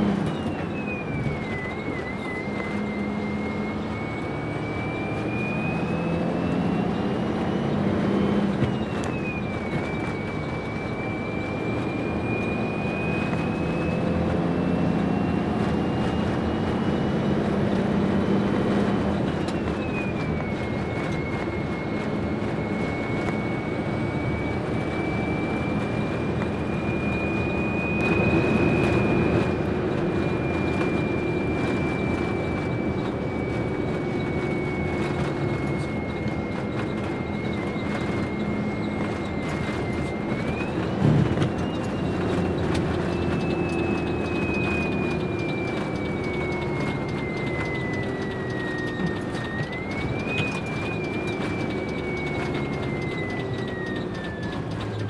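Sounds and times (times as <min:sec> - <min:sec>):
truck diesel engine whine: 0:00.0 - 0:55.0.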